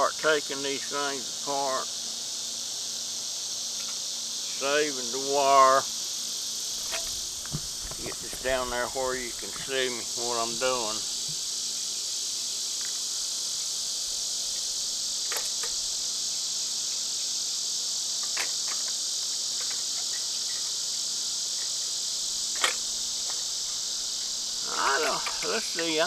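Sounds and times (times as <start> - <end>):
katydids chorus: 0.0 - 26.0.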